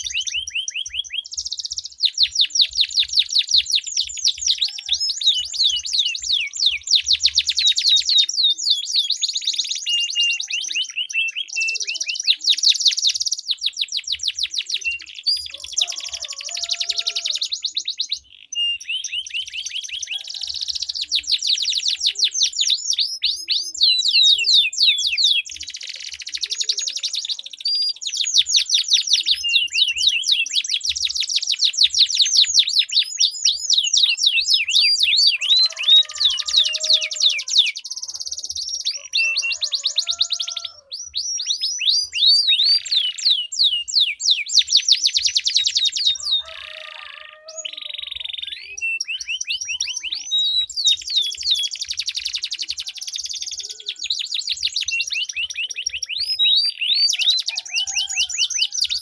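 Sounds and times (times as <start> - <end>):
canaries trilling: 0.0 - 59.0.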